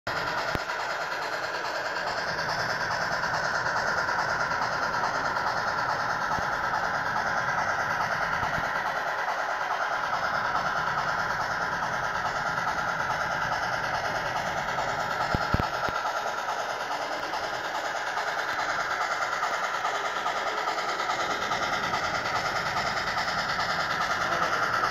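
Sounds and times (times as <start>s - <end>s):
model train running hiss: 0.2s - 24.9s.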